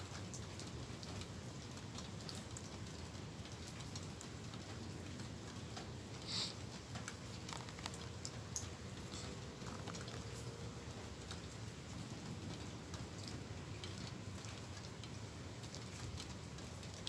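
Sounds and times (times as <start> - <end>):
light rain pattering: 0.0 - 17.0
raindrops ticking on surfaces: 0.0 - 17.0.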